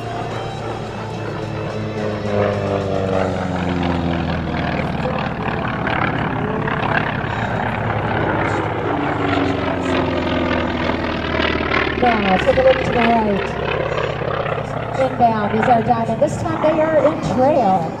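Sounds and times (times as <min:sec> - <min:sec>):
propeller plane fly-by drone: 0:00.0 - 0:18.0.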